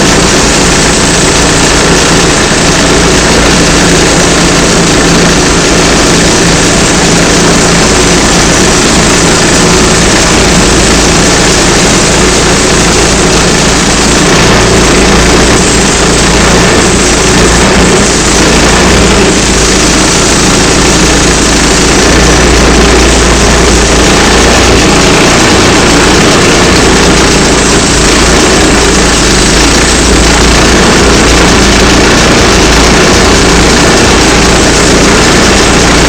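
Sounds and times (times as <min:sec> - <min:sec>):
sawmill engine droning: 0:00.0 - 0:36.0.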